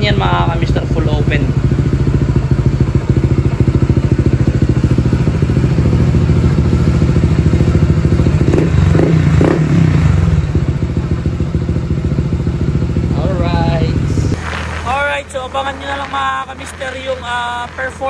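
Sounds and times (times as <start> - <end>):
scooter engine idling: 0.0 - 18.0.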